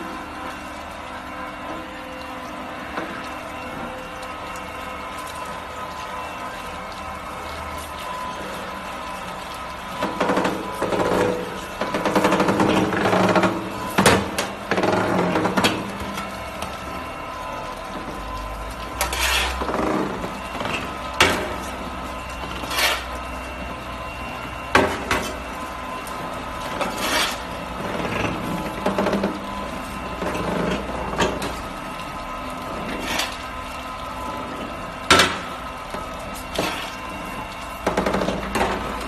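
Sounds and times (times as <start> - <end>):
motor and gearbox hum: 0.0 - 39.0.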